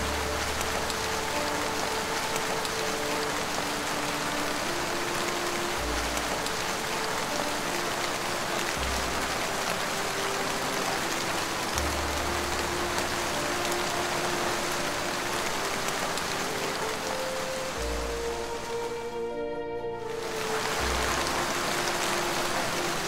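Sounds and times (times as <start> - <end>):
steady rain hiss: 0.0 - 23.0
synth pad ambient music: 0.0 - 23.0.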